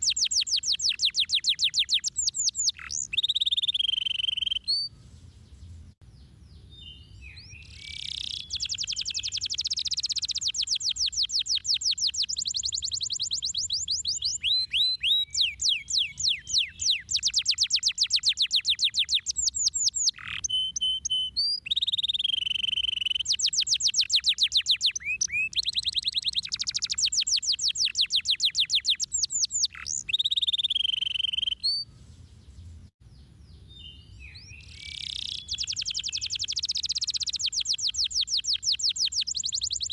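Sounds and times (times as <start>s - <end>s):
canary singing trills: 0.0s - 5.0s, 6.2s - 39.9s.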